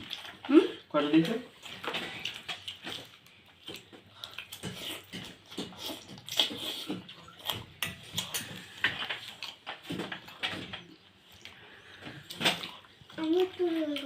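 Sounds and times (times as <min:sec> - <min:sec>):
wet chewing and slurping: 0:00.0 - 0:14.0.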